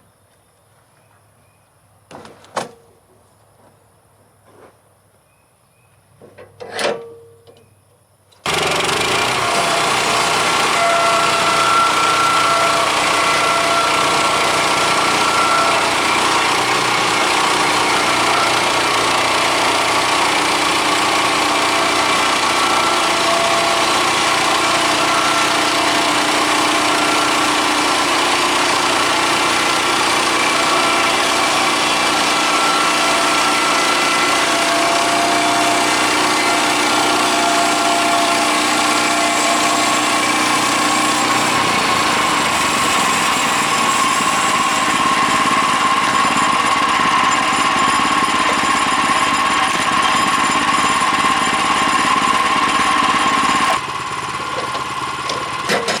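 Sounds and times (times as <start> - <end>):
bandsaw mill cutting log: 8.4 - 56.0.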